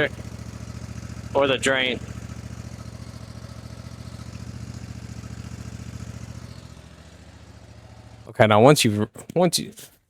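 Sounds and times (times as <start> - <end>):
lawn mower engine running: 0.0 - 8.8.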